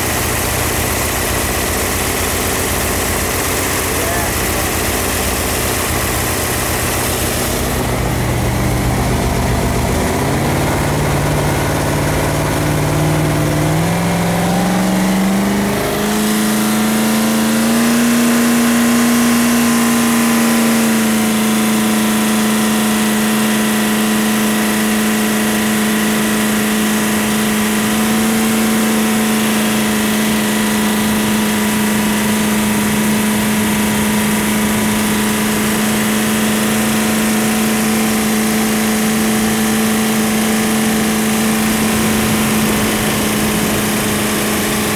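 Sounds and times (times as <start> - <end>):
boat engine revving: 0.0 - 44.9.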